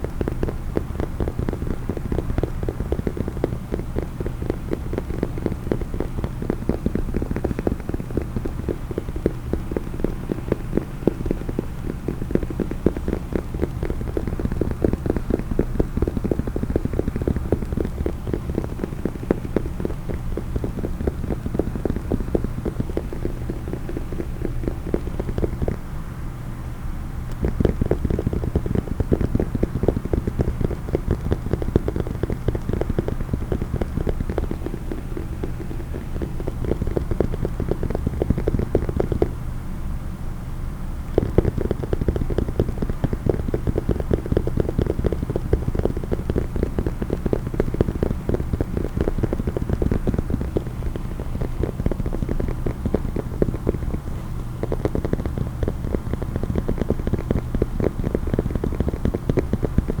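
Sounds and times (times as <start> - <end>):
rapid tapping on a case: 0.0 - 26.0, 27.2 - 39.4, 41.0 - 60.0.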